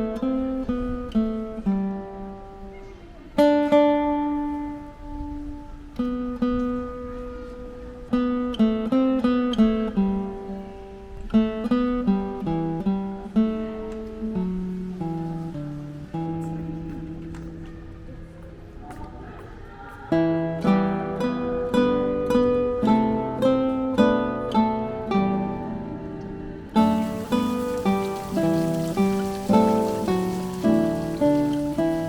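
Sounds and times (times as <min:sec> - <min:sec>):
solo acoustic guitar melody: 0:00.0 - 0:18.2, 0:20.1 - 0:32.0.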